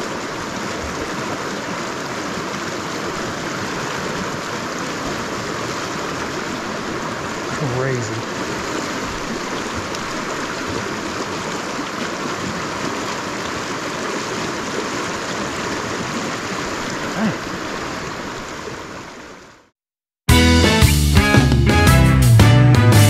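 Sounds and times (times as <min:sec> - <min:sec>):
river water running: 0:00.0 - 0:19.7.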